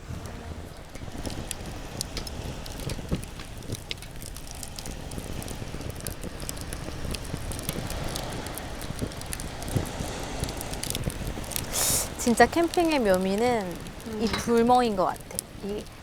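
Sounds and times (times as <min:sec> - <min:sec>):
campfire crackling and popping: 0:00.0 - 0:16.0
steady low rumble: 0:00.0 - 0:16.0.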